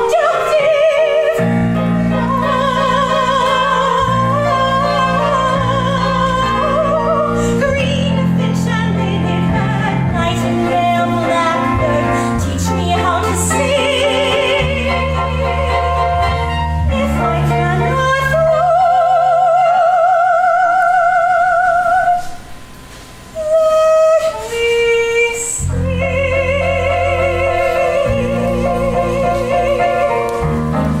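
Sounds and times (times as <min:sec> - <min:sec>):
woman singing opera: 0:00.0 - 0:22.4, 0:23.4 - 0:31.0
musical accompaniment: 0:00.0 - 0:31.0.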